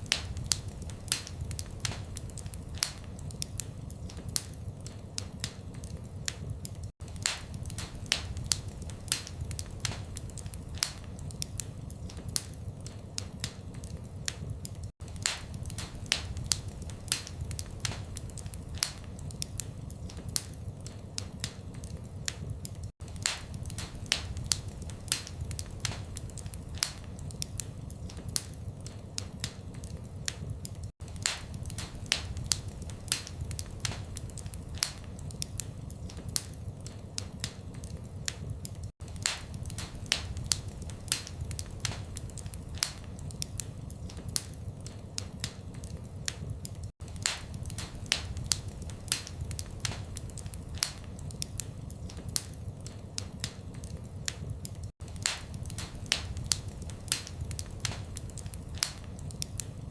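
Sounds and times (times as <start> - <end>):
low steady fire rumble: 0.0 - 59.9
wood fire crackling: 0.0 - 59.9.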